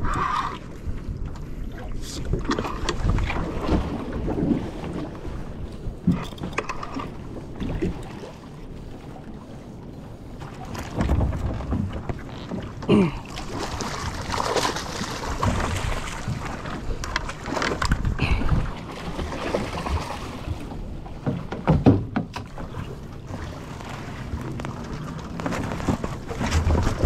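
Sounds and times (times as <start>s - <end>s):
water noise: 0.0s - 27.0s.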